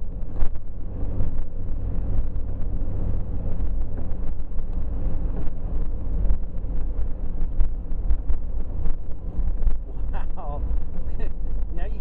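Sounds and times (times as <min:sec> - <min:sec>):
car driving on snow: 0:00.0 - 0:12.0.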